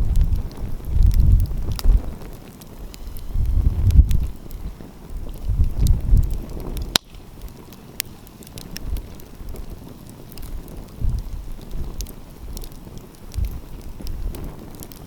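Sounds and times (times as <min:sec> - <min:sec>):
wind buffeting microphone: 0:00.0 - 0:15.0
wood fire crackling and popping: 0:00.0 - 0:15.0.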